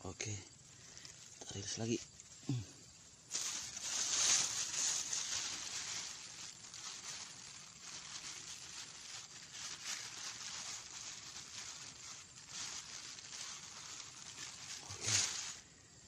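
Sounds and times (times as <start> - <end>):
crackly rustling in grass: 0.0 - 16.0.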